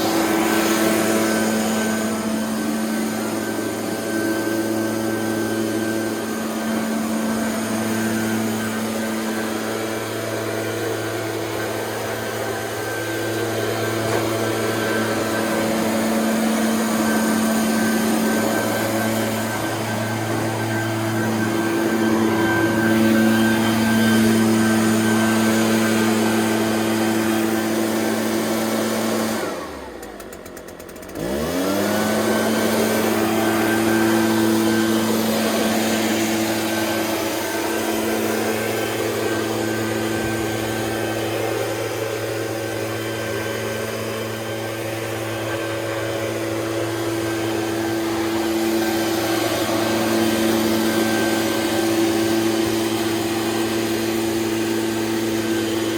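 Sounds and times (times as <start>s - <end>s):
leaf blower engine running: 0.0s - 55.9s.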